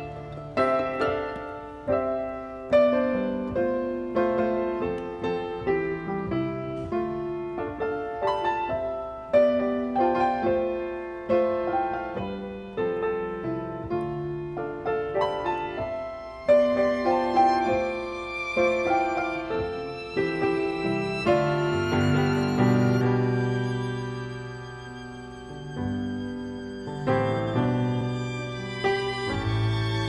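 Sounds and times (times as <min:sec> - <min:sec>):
solo piano: 0:00.0 - 0:30.0.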